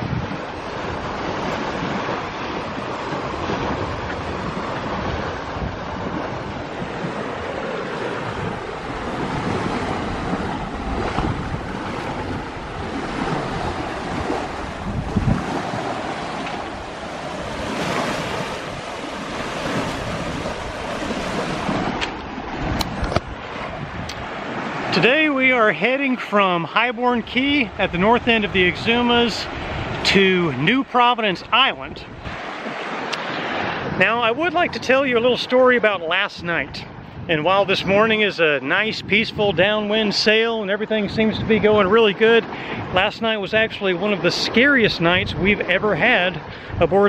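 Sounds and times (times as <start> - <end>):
water rushing along hull: 0.0 - 47.0
wind buffeting microphone: 0.0 - 47.0.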